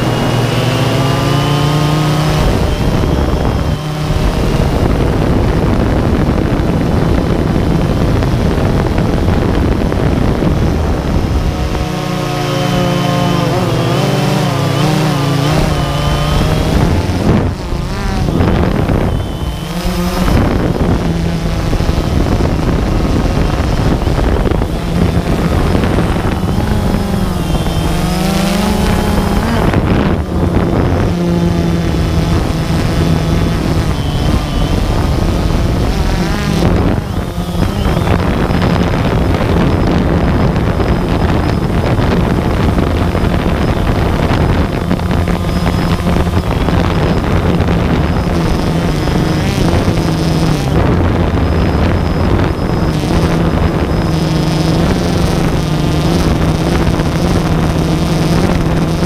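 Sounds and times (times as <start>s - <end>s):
drone motors buzzing: 0.0s - 59.0s
wind on microphone: 0.0s - 59.0s.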